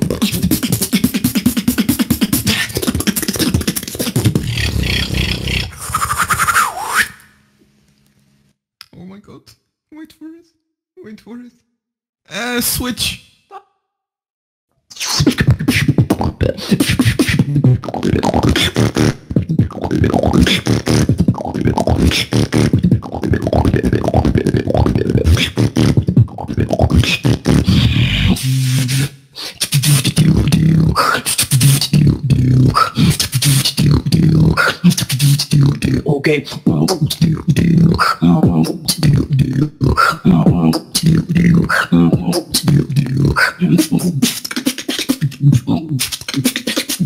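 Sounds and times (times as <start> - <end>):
beatboxing: 0.0 - 7.3, 14.9 - 47.0.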